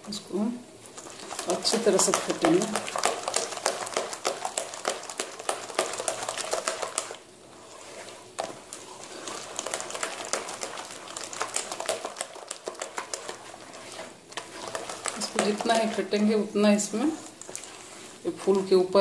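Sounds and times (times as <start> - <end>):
batter slapping in steel bowl: 0.8 - 18.9.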